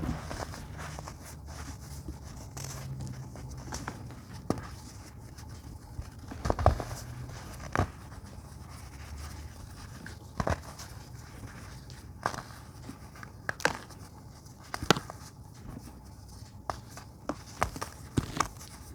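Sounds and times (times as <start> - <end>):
faint low hum: 0.0 - 18.9.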